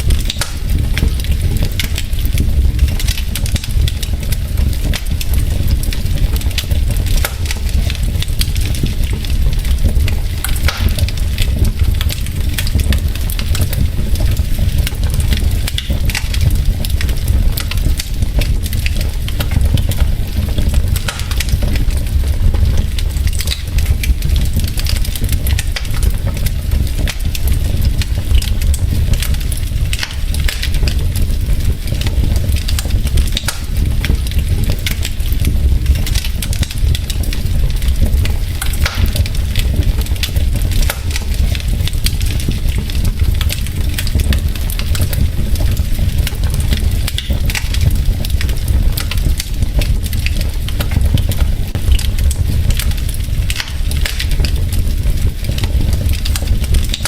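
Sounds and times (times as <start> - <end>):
logs crackling and popping in fire: 0.0 - 57.0
low fire rumble: 0.0 - 57.0.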